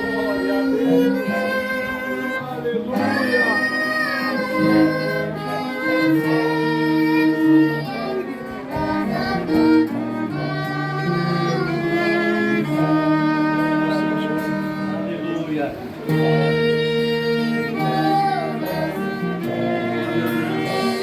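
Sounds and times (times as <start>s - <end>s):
slow hymn chords: 0.0s - 21.0s.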